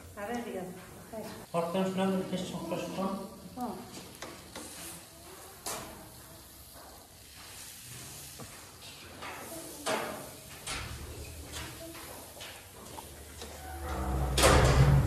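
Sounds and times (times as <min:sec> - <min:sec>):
kebabs sizzling on grill: 0:00.0 - 0:13.7.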